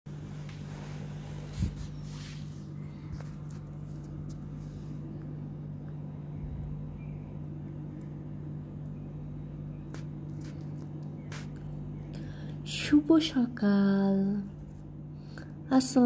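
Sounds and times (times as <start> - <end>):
low mechanical hum: 0.1 - 16.0.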